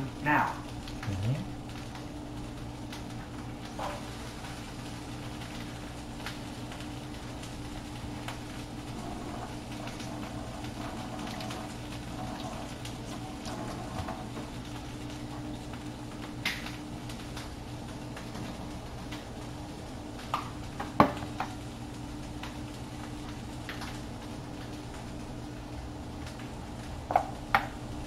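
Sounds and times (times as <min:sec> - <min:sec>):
low kitchen hum: 0:00.0 - 0:28.0
vegetables sizzling in a pan: 0:00.0 - 0:28.0.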